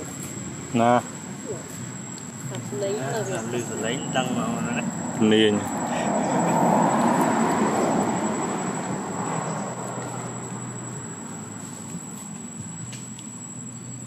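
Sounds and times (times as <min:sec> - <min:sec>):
passing vehicle rumble: 0:00.0 - 0:14.0.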